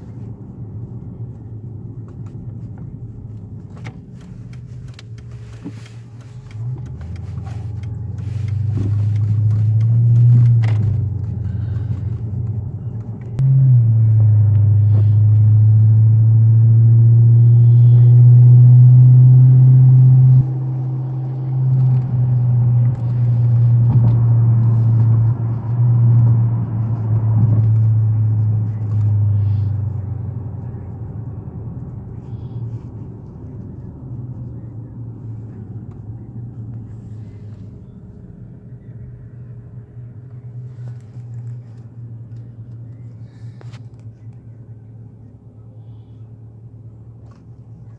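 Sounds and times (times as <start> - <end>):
car driving low drone: 0.0 - 47.9.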